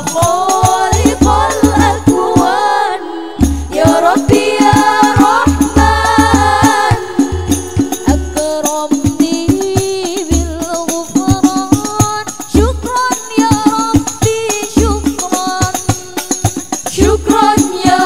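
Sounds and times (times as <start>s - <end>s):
women singing together: 0.0s - 18.0s.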